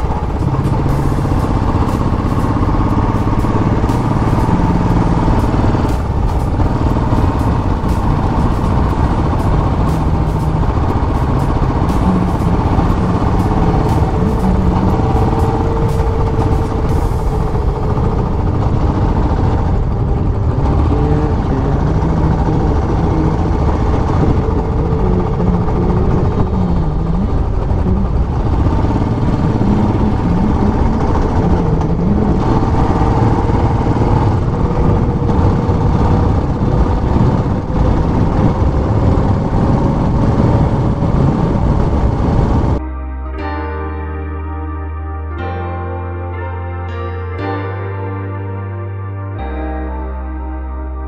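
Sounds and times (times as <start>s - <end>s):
motorcycle engine rumbling: 0.0s - 43.7s.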